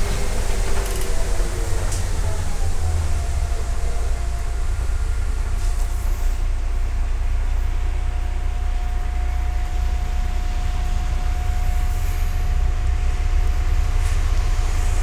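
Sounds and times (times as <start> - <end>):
bus engine rumble with whine: 0.0 - 15.0.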